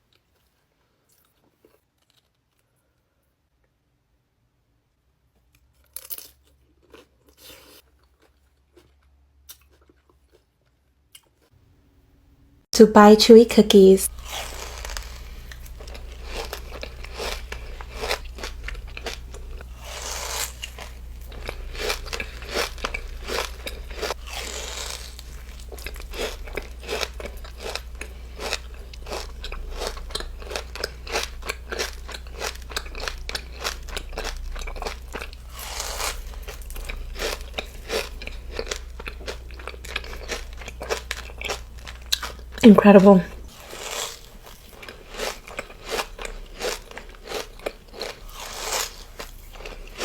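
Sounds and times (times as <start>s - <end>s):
person chewing crunchy food: 0.0s - 2.6s, 5.6s - 11.5s, 14.1s - 50.0s.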